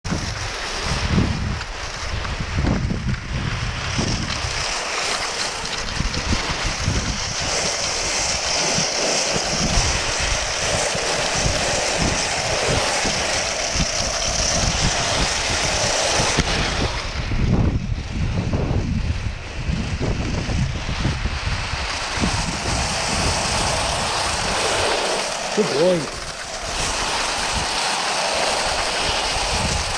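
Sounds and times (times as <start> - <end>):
wind buffeting microphone: 0.0 - 29.9
skis hissing over snow: 0.1 - 18.4, 19.0 - 29.9.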